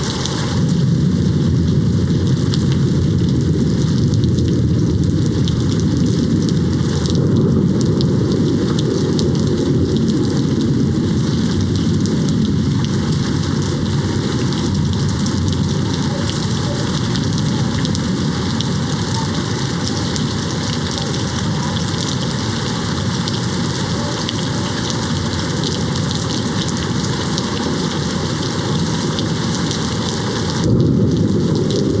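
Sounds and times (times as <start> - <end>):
heavy rain on window: 0.0 - 32.0.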